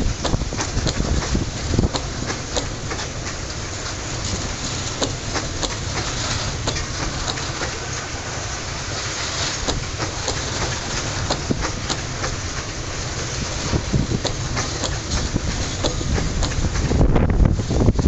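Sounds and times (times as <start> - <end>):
train wheels rumbling on rail: 0.0 - 18.0
wheels clicking over rail joints: 0.0 - 18.0.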